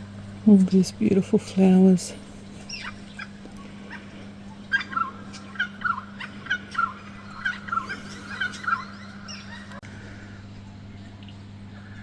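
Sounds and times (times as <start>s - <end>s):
bird calling: 0.0s - 12.0s
steady low hum: 0.0s - 12.0s.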